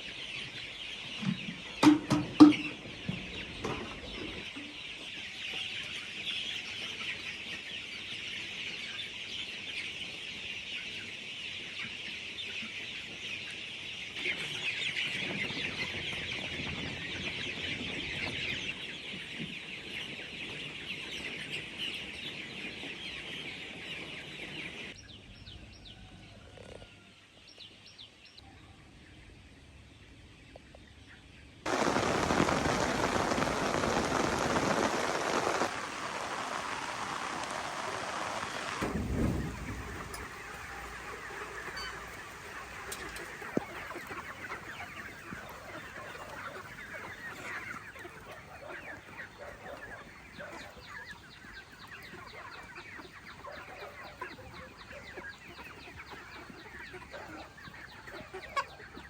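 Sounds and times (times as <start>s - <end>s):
chickens clucking and chirping: 0.0s - 59.0s.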